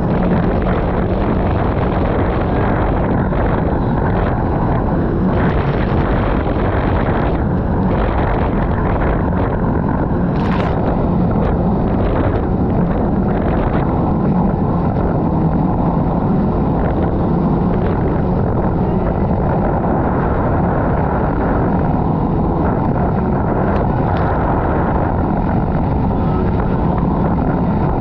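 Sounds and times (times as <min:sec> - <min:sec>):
jet ski engine running: 0:00.0 - 0:28.0
wind rushing over microphone: 0:00.0 - 0:28.0.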